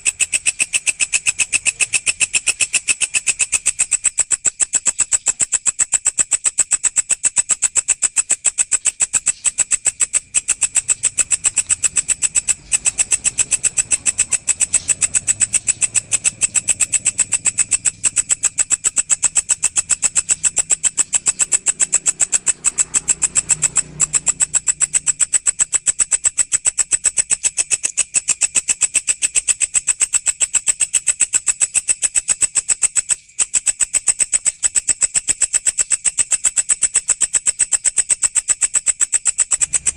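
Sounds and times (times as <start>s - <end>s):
insect shrill chirping: 0.0s - 39.9s.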